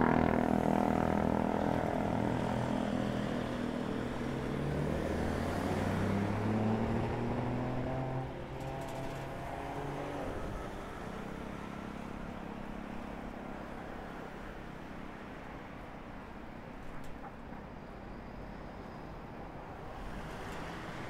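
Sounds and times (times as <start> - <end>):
traffic hum: 0.0 - 18.5.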